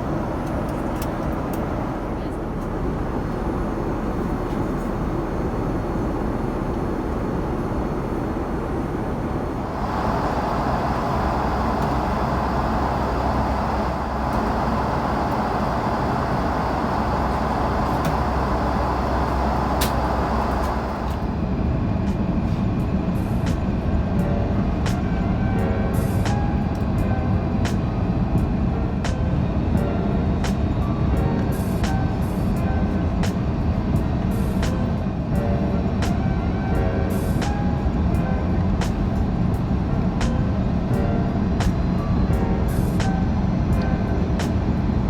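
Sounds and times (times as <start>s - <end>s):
airliner cabin engine rush: 0.0s - 45.0s.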